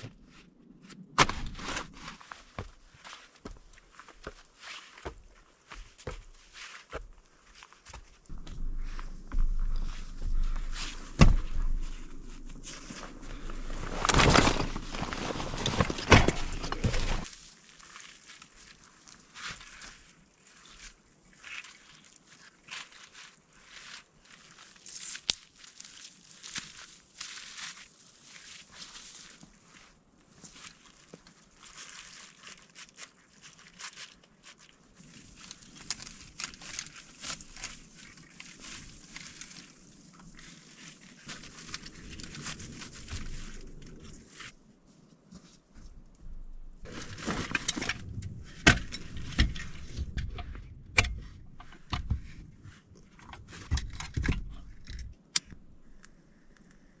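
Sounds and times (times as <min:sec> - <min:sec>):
scraping rustling noise: 0:00.0 - 0:21.0, 0:25.9 - 0:55.2.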